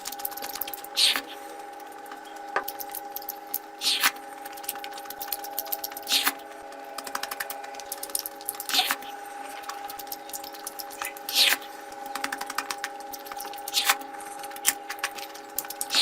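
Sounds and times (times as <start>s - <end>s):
steady hum: 0.0s - 16.0s
wet chewing: 0.0s - 16.0s.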